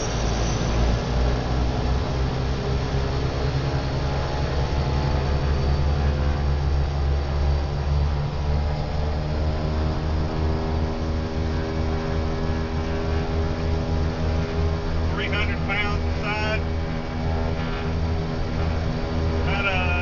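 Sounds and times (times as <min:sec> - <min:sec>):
turboprop engines droning: 0:00.0 - 0:20.0.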